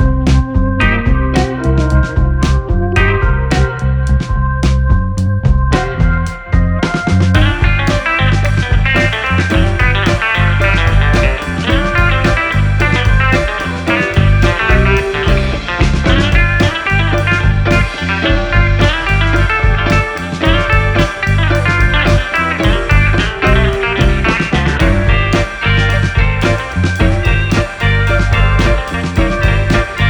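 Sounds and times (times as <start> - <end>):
song with plucked guitar and bass: 0.0 - 30.0.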